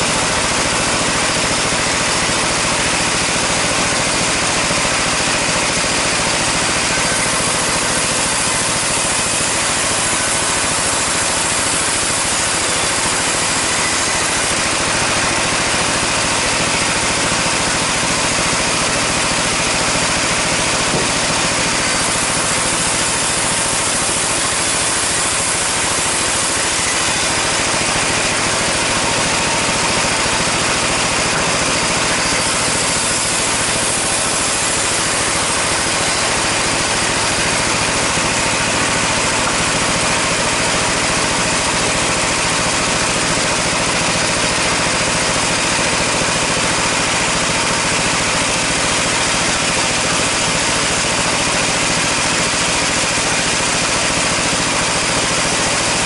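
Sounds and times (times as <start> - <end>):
band saw cutting wood: 0.0 - 56.0
machine hum: 0.0 - 56.0.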